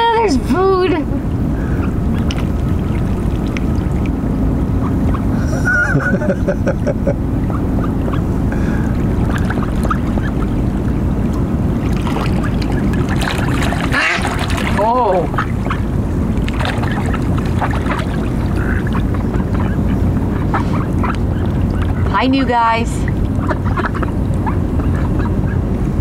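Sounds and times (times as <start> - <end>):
steady low rumble: 0.0 - 26.0
ducks quacking: 1.6 - 4.0, 4.6 - 25.7.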